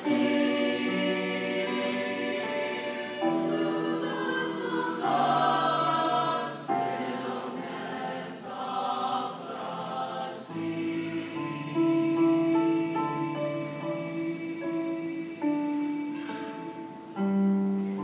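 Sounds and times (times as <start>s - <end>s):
mixed choir singing in harmony: 0.0s - 18.0s.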